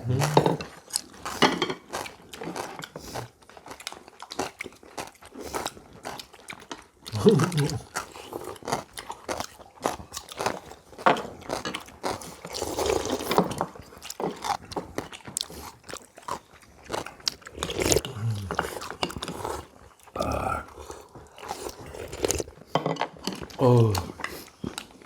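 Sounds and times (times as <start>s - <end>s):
chewing and slurping: 0.0s - 25.0s.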